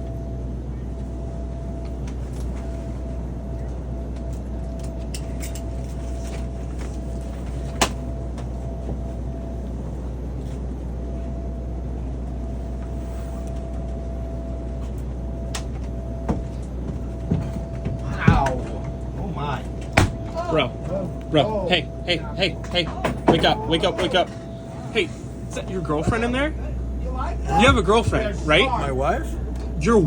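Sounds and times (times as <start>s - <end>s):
airliner cabin drone: 0.0s - 30.0s
thin steady hum: 0.0s - 30.0s.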